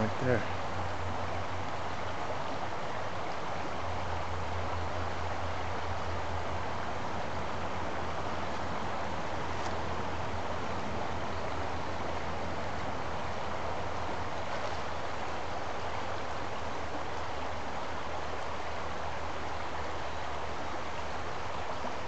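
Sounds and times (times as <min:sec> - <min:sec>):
creek water running over stones: 0:00.0 - 0:22.0
low steady hum: 0:00.0 - 0:22.0.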